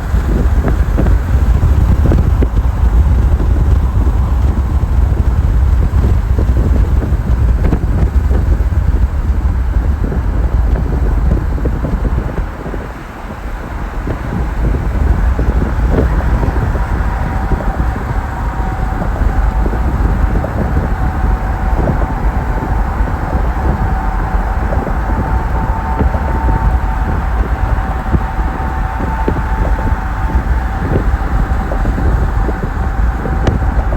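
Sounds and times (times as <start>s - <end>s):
car road and wind noise: 0.0s - 33.9s
faint steady whine: 0.0s - 33.9s.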